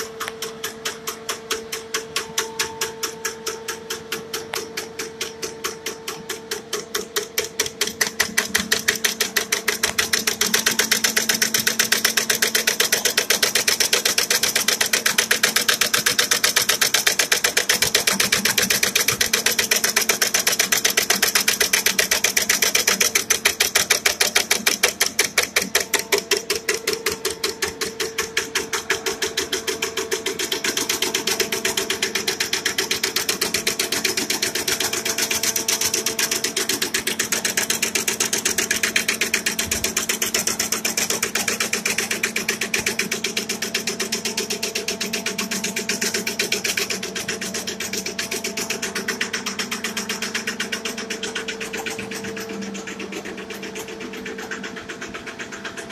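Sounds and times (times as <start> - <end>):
machine clattering over a hum: 0.0 - 55.9.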